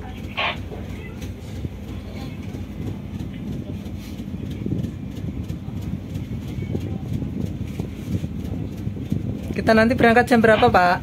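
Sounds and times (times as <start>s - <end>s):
low hum of ferry machinery: 0.0s - 11.0s.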